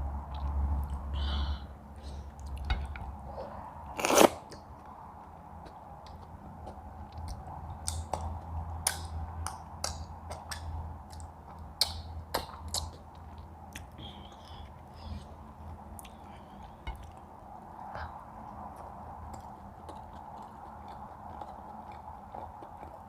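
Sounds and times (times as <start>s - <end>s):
low steady hum: 0.0s - 23.0s
chewing with crunches: 2.1s - 23.0s.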